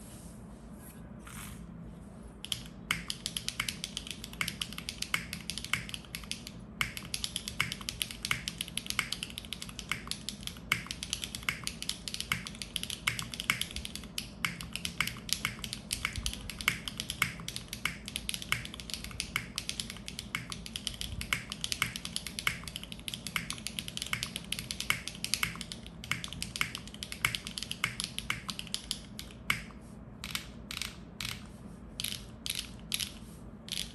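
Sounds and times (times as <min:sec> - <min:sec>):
mechanical keyboard typing: 0:02.4 - 0:33.9.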